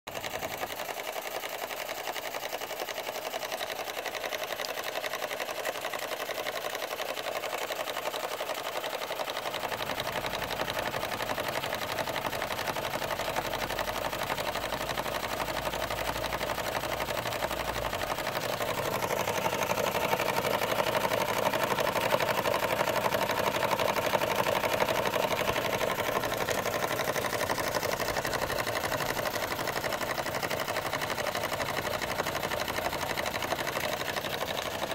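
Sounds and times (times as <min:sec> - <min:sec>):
toy steam engine chuffing: 0:00.1 - 0:34.9.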